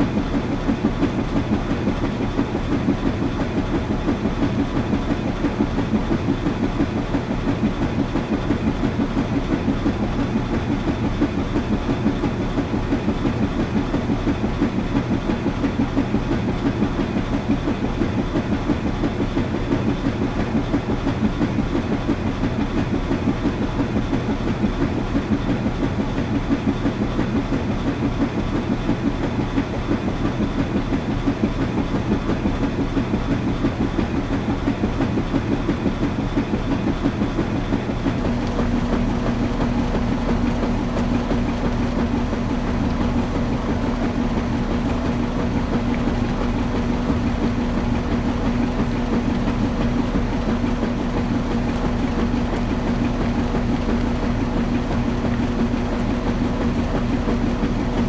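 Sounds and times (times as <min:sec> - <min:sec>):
washing machine drum churning: 0:00.0 - 0:58.0
washing machine humming: 0:00.0 - 0:58.0.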